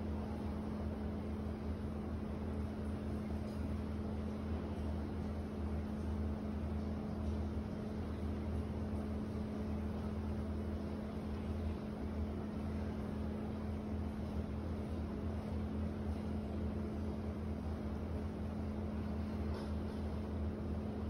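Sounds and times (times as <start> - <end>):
low machine drone: 0.0 - 21.0.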